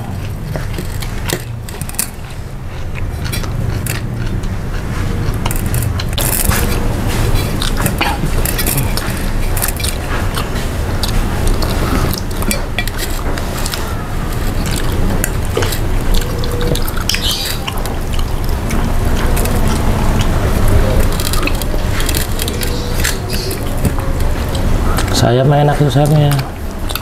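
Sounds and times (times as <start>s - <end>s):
clicks of food and plate: 0.0s - 25.2s
wet chewing: 0.0s - 27.0s.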